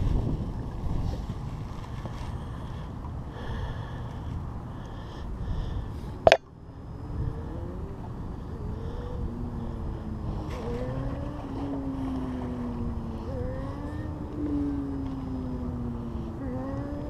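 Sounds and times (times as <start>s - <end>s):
distant boat motor: 0.0s - 17.0s
wind buffeting microphone: 0.0s - 17.0s.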